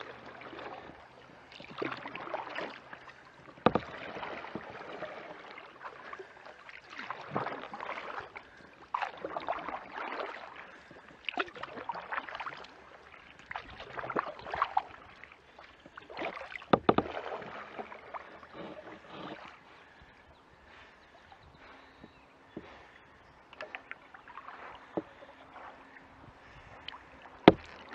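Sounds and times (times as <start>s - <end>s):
paddle strokes splashing in water: 0.0s - 27.9s.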